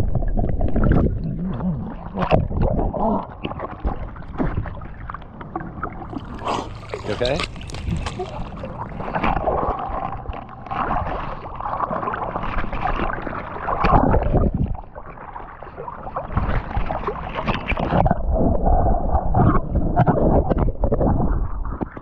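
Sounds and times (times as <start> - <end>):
water sloshing and gurgling: 0.0 - 21.4.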